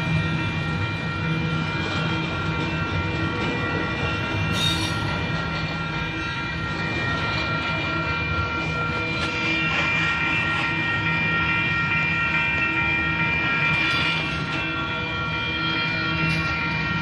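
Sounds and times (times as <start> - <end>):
high ringing tones: 0.0 - 17.0
train wheels rumbling on rails: 0.0 - 17.0.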